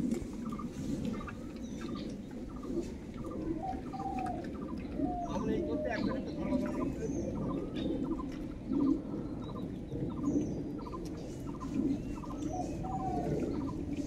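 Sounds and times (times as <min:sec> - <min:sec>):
low cooing bird call: 0:00.0 - 0:14.0.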